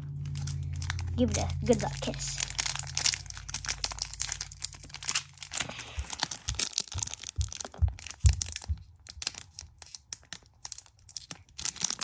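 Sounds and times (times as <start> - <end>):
foil pack crinkling and tearing: 0.1 - 12.0.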